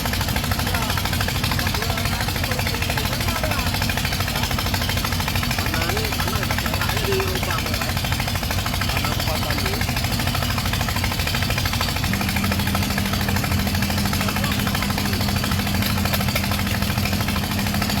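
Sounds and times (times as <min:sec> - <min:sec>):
diesel engine rattling: 0:00.0 - 0:18.0.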